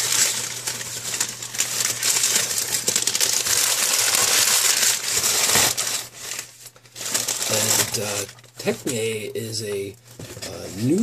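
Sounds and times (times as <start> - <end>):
newspaper crinkling: 0.0 - 11.0.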